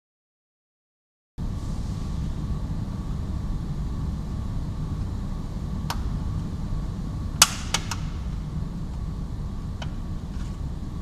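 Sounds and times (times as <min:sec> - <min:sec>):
low rumble: 0:01.4 - 0:11.0.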